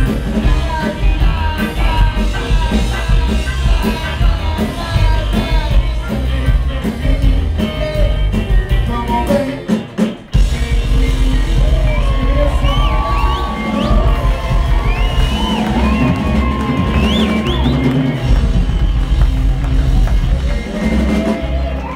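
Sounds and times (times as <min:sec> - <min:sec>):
drums: 0:00.0 - 0:21.9
electric guitar: 0:00.0 - 0:21.9
upright bass: 0:00.0 - 0:21.9.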